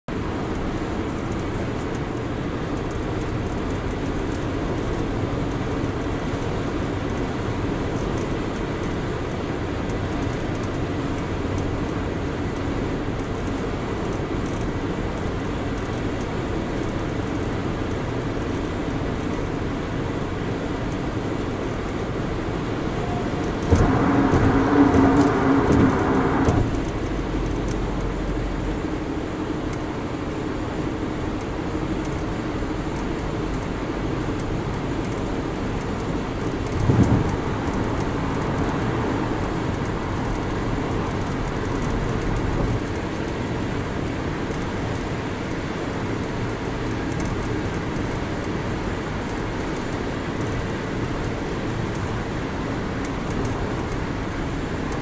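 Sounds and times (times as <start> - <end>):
loud rumble with hum: 0.1 - 45.4
car road noise: 0.1 - 55.0.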